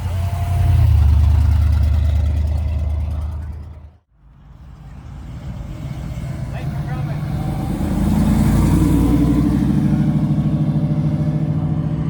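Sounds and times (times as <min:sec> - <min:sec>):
car driving past: 0:00.0 - 0:12.0.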